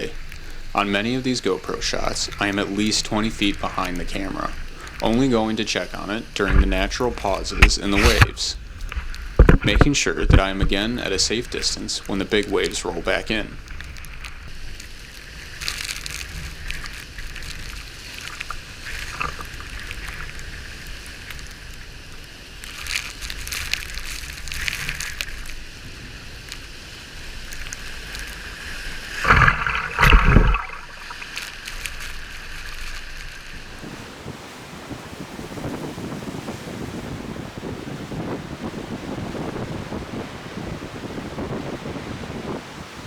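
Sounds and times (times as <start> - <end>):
storm surf washing and sloshing: 0.0 - 43.0
wind rumbling on microphone: 0.0 - 43.0.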